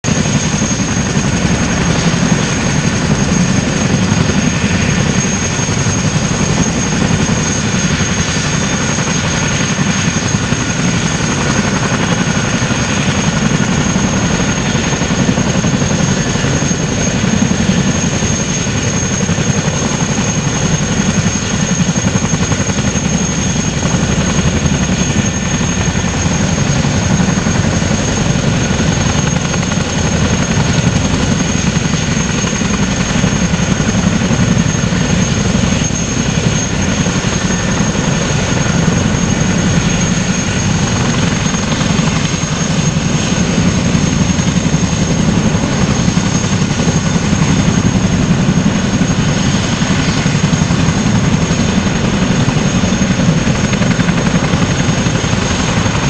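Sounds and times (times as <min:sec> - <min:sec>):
helicopter rotor thrum: 0:00.0 - 0:56.0.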